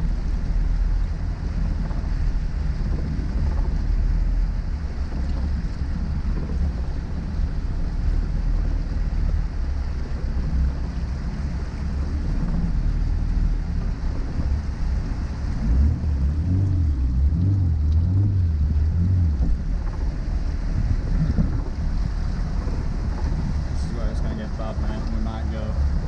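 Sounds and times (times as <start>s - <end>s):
low engine drone: 0.0s - 26.0s
water washing against car: 0.0s - 26.0s.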